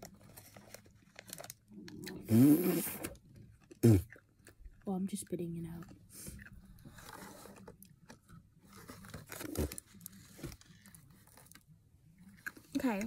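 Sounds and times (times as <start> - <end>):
child chewing crunchy food: 0.0 - 13.0.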